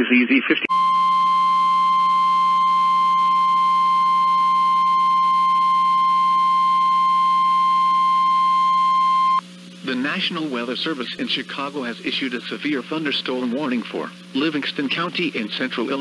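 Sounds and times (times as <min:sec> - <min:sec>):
steady alarm tone: 0:00.7 - 0:14.6.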